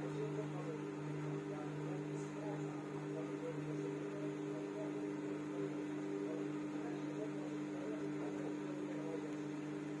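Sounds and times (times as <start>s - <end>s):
washing machine humming: 0.0s - 10.0s.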